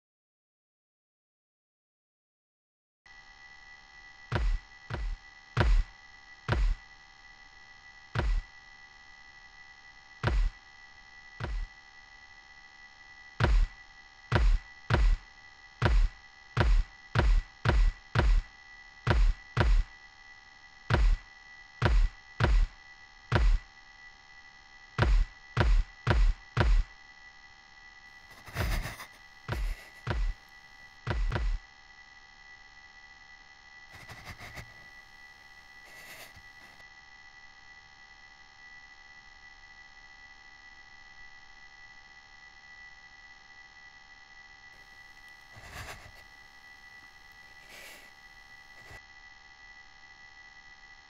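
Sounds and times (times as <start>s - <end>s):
high-pitched hum: 3.1s - 49.3s.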